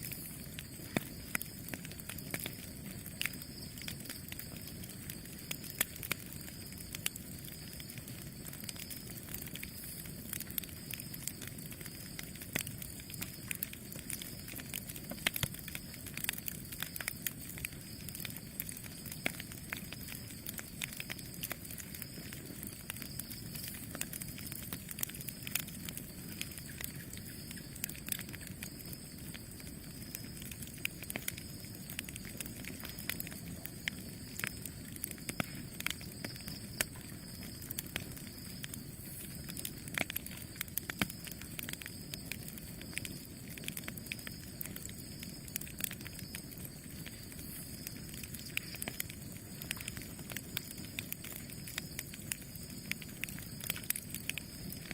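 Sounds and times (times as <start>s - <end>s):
burning wood crackling and popping: 0.0s - 54.9s
campfire flames rumbling: 0.0s - 54.9s.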